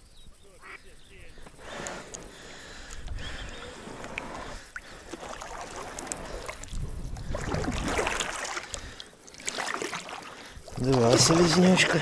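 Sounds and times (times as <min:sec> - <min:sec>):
oars splashing: 0:01.3 - 0:12.0
water trickling: 0:02.1 - 0:12.0.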